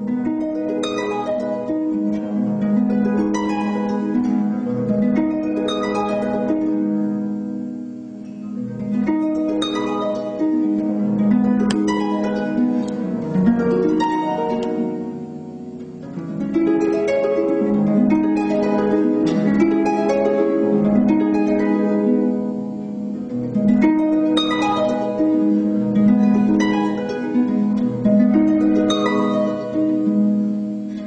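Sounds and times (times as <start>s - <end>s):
solo harp music: 0.0s - 31.0s.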